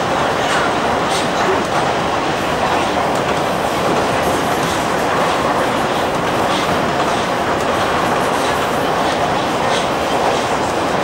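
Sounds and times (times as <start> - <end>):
subway train wheels on rail: 0.0 - 11.0.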